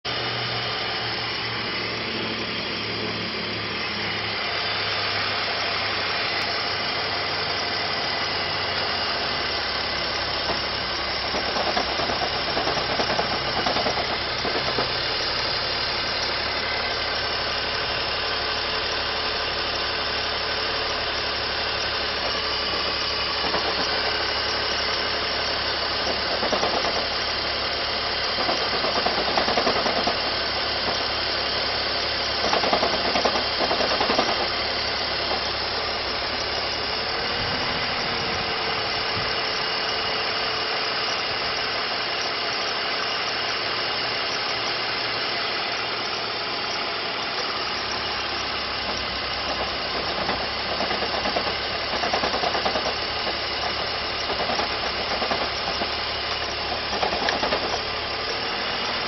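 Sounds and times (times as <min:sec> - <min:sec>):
car engine idling roughly: 0:00.0 - 0:59.0.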